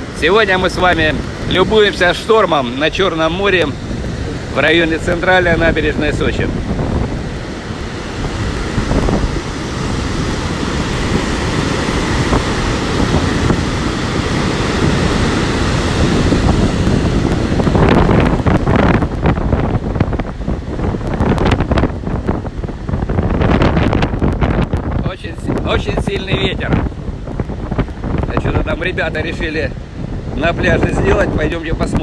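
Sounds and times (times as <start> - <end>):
heavy surf rumbling: 0.0 - 32.0
wind buffeting microphone: 0.0 - 32.0.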